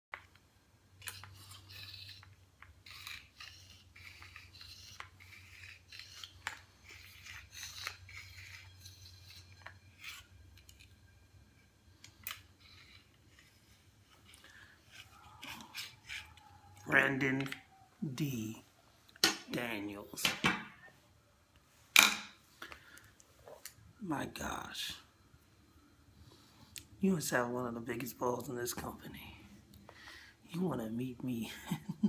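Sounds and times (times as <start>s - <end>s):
low steady hum: 0.1s - 32.0s.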